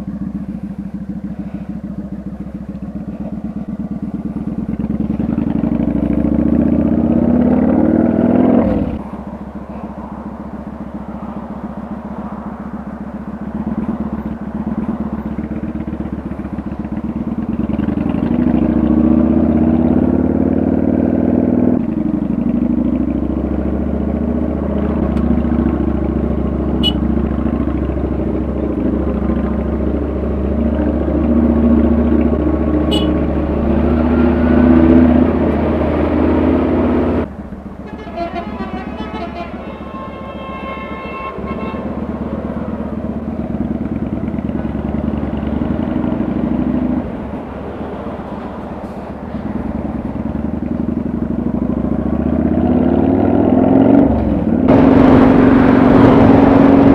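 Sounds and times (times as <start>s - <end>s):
motorcycle engine accelerating: 0.0s - 37.4s, 41.7s - 47.6s, 49.5s - 56.9s.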